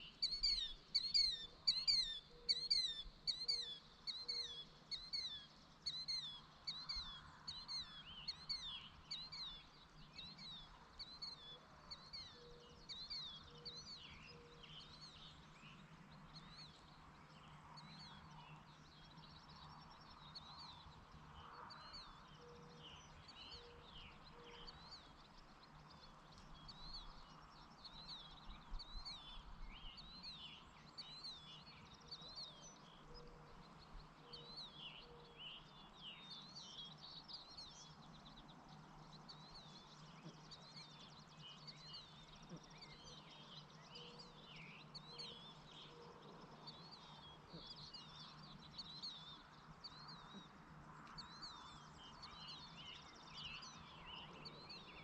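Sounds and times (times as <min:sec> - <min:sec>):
other birds calling faintly: 0:00.0 - 0:55.0.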